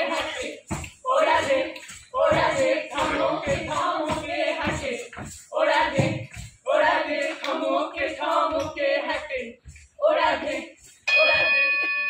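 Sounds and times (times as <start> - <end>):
group singing in short phrases: 0.0 - 11.5.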